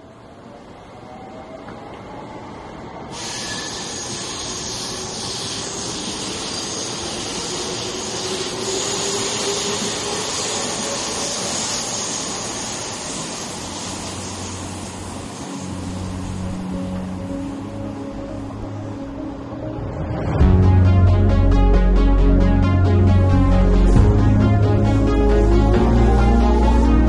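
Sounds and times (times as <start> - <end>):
electric train rushing: 0.1 - 27.0.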